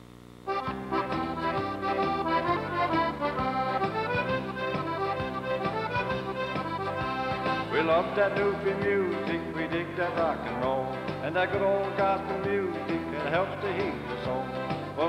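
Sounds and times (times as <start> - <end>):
accordion dance tune: 0.5 - 15.0
bass line: 0.5 - 15.0.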